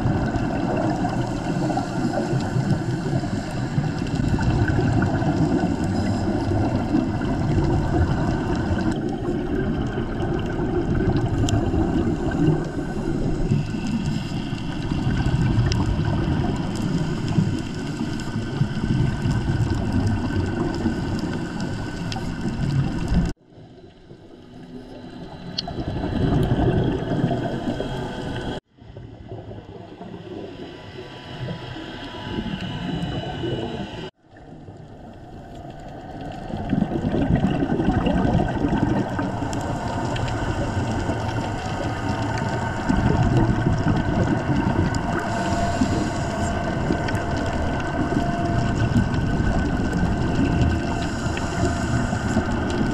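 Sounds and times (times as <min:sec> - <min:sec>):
underwater gurgling water: 0:00.0 - 0:52.9.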